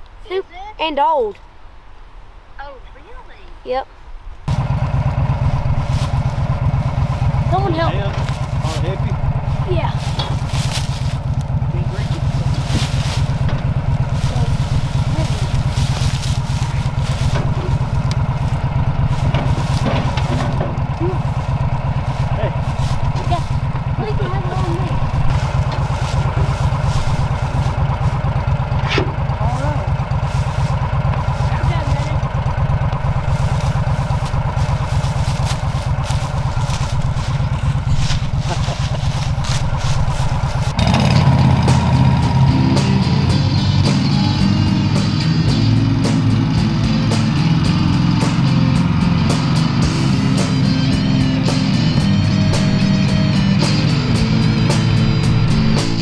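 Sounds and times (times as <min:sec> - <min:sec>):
small vehicle engine idling: 0:04.5 - 0:56.0.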